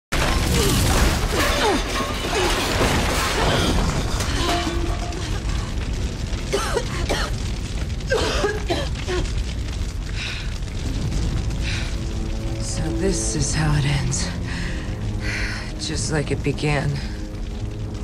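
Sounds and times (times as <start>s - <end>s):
large fire crackling: 0.1s - 18.0s.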